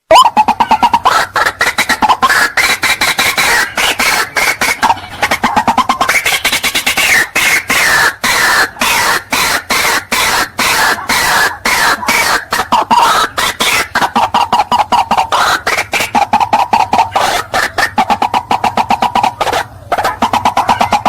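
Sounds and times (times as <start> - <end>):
bird calling harsh rhythmic notes: 0.0 - 21.0.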